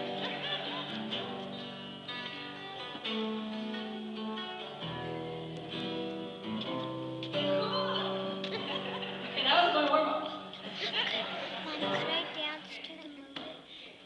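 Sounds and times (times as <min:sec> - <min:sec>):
guitar chords: 0:00.0 - 0:13.6.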